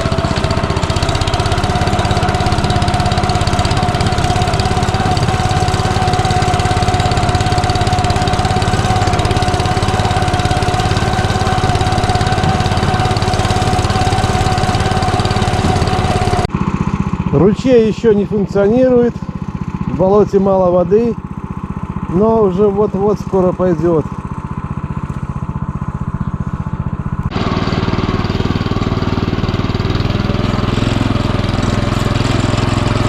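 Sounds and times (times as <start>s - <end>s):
small tractor engine running: 0.0s - 33.0s.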